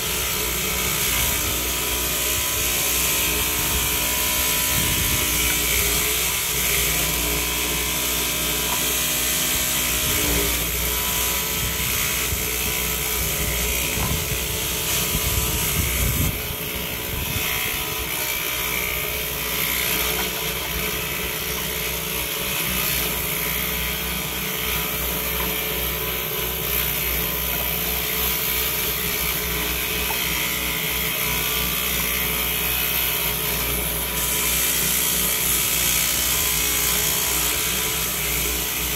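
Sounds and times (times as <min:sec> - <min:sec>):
electric saw running: 0:00.0 - 0:38.9.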